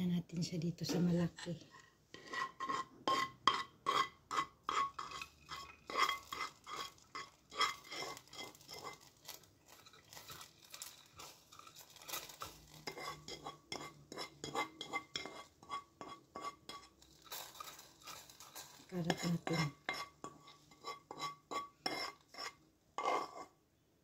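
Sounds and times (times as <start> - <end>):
metal spoon scraping a pan: 0.8 - 23.6.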